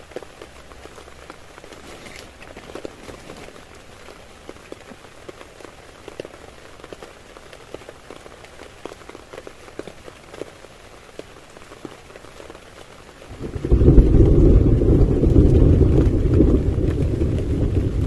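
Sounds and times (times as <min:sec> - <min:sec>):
heavy rain on a tent: 0:00.0 - 0:18.0.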